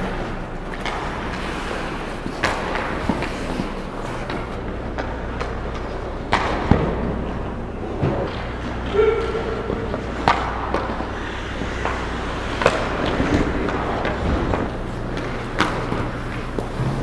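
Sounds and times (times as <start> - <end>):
hockey sticks and puck clacking: 0.0 - 17.0
skates scraping on ice: 0.0 - 17.0.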